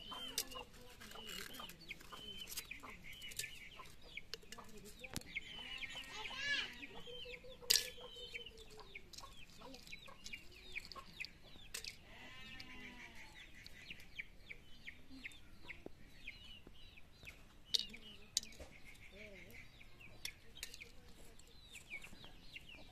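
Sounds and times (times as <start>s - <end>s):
chickens clucking: 0.0s - 22.9s
small birds chirping: 0.0s - 22.9s.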